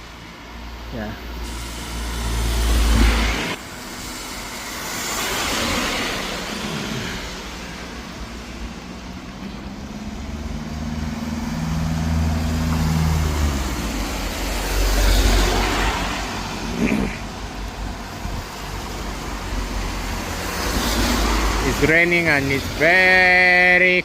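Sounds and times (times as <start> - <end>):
cars hissing past on wet road: 0.0 - 22.9
heavy vehicle engine drone: 0.0 - 24.0.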